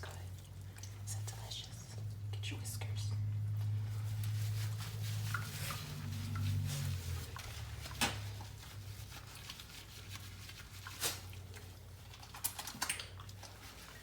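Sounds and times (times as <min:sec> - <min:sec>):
low steady hum: 0:00.0 - 0:14.0
wet rubbing of dog fur: 0:00.0 - 0:14.0.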